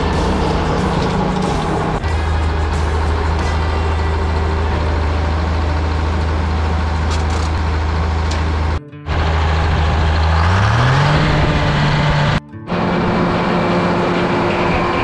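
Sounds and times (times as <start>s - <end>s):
diesel engine running and revving: 0.0s - 15.0s.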